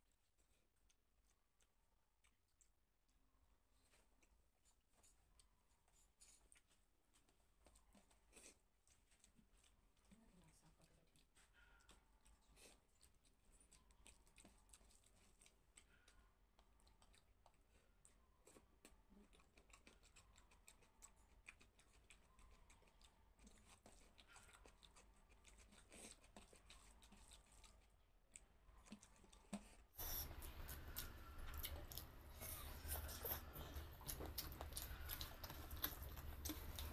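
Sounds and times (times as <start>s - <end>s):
close-up chewing: 0.0s - 36.9s.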